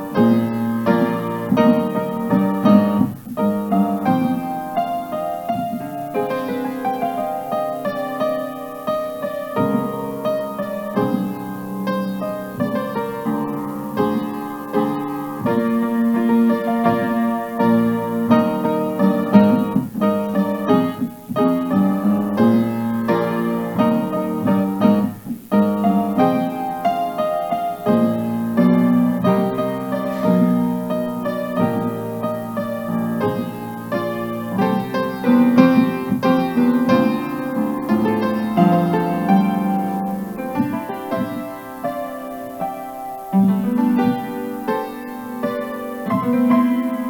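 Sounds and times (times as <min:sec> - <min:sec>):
slow piano chords: 0:00.0 - 0:47.0.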